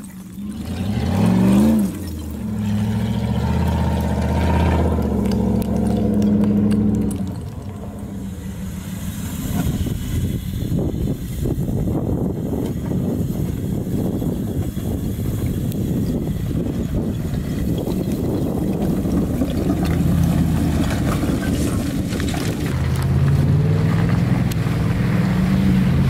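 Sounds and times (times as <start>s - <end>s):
engine revving and pulling: 0.0s - 26.0s.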